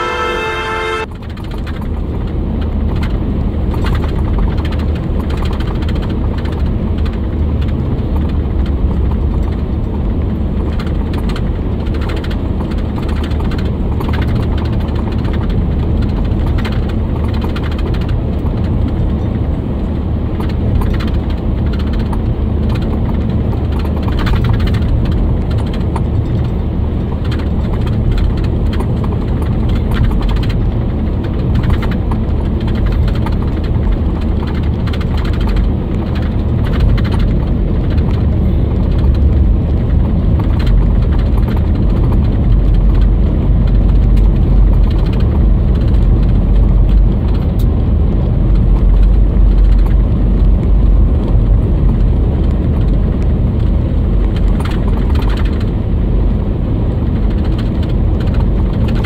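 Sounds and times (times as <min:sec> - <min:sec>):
train clicks and clanks: 0:00.0 - 0:59.0
train wheels rumbling on rails: 0:00.0 - 0:59.0.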